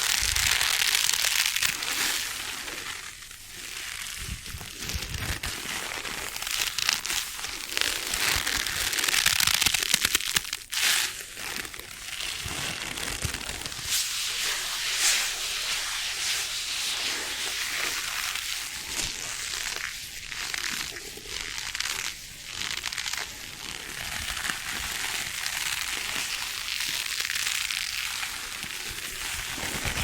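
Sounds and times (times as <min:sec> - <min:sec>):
crinkling and crackling: 0:00.0 - 0:30.0.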